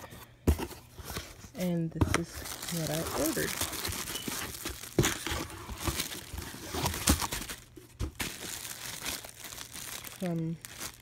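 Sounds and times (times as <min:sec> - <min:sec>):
plastic wrapping crinkling: 0:02.2 - 0:11.0.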